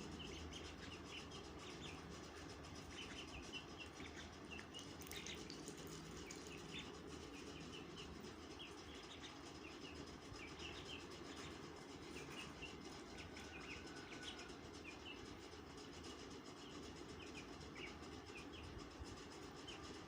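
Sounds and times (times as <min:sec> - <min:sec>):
chicks peeping: 0:00.0 - 0:20.0
steady low background noise: 0:00.0 - 0:20.0.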